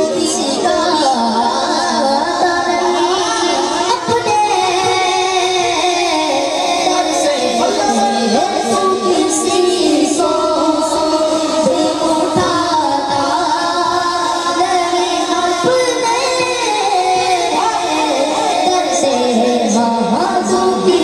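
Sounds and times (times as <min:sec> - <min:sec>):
boy singing a hymn into microphone: 0:00.0 - 0:21.0.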